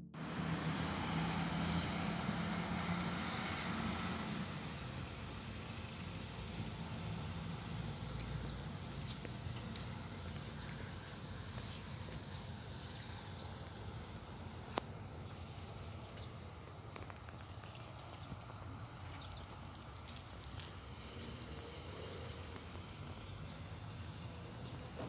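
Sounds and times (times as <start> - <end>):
outdoor background hiss: 0.2 - 25.0
small birds chirping: 2.2 - 25.0.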